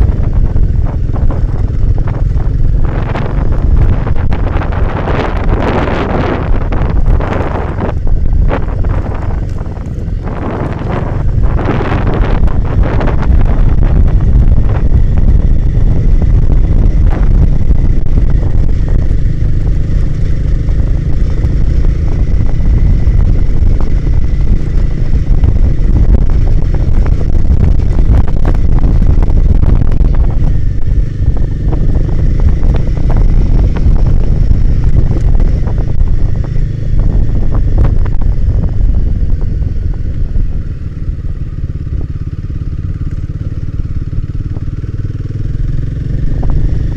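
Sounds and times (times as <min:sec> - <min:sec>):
motorcycle engine running: 0:00.0 - 0:46.9
wind buffeting on microphone: 0:00.0 - 0:46.9.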